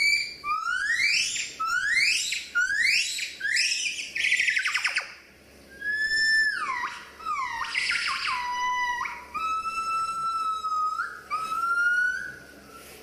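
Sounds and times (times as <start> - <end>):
gibbon whistle-like hoots: 0.0 - 13.0.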